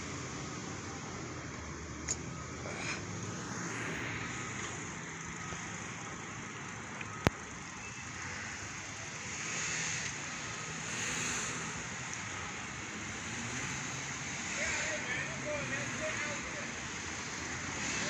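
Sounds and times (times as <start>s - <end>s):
fire engine driving: 0.0s - 18.0s
road traffic: 0.0s - 18.0s.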